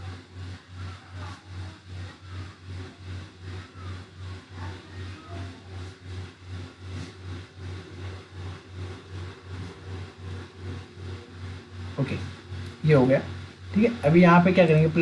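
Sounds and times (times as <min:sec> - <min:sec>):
pulsing low machine hum: 0:00.0 - 0:15.0.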